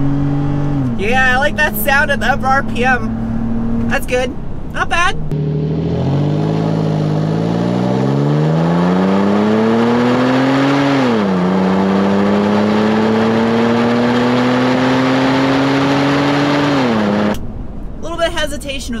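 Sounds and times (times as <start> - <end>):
car exhaust accelerating hard: 0.0 - 19.0.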